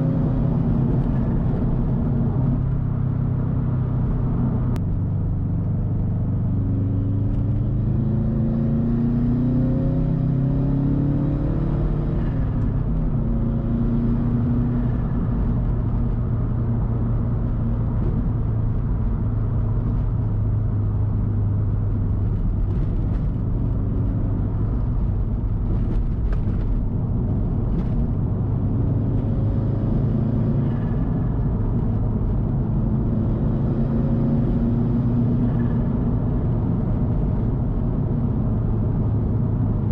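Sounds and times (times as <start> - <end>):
car engine accelerating and cruising: 0.0 - 39.9.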